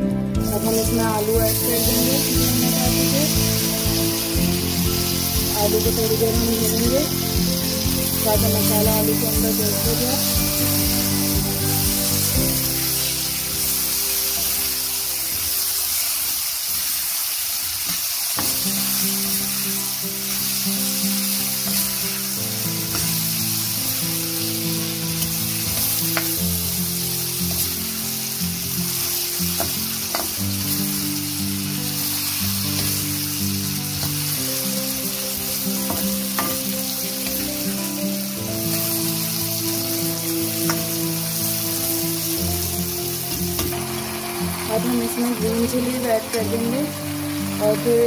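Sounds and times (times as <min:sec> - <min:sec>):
potatoes sizzling in hot oil: 0:00.4 - 0:48.0.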